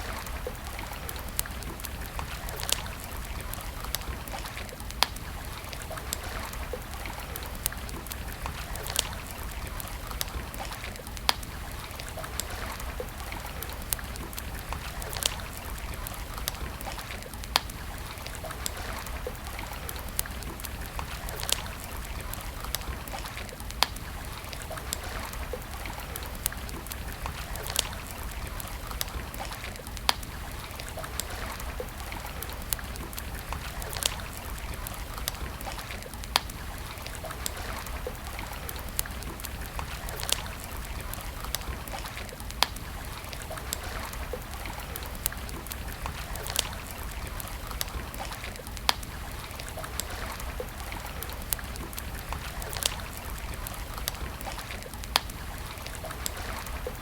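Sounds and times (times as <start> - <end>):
campfire crackling and popping: 0.0 - 57.0
flowing water: 0.0 - 57.0.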